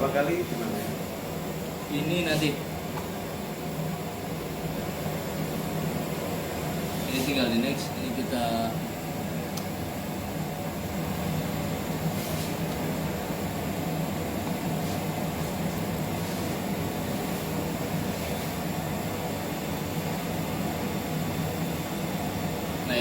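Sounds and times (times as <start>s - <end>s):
equipment and ventilation hum: 0.0s - 23.0s.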